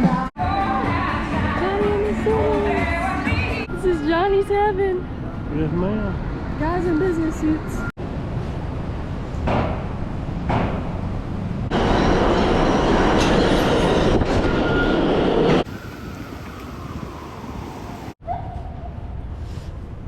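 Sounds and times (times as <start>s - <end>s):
train rumbling: 1.1s - 20.0s.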